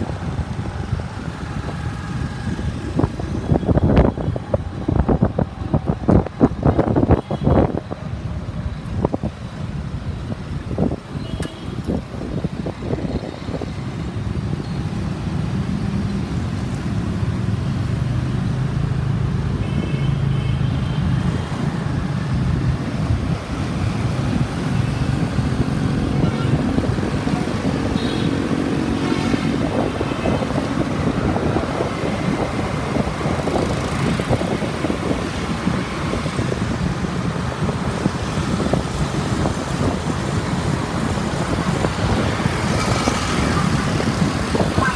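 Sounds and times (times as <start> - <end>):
wind buffeting microphone: 0.0 - 19.7, 21.0 - 44.9
motorbike engines and road noise: 0.0 - 44.9.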